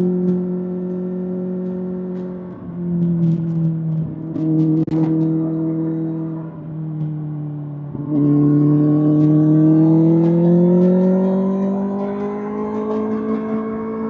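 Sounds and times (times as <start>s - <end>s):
motorcycle engine under throttle: 0.0s - 14.0s.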